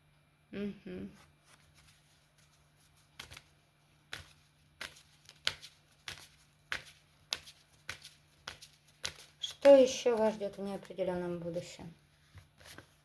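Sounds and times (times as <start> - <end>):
cards being shuffled: 1.2 - 11.6, 12.2 - 13.0.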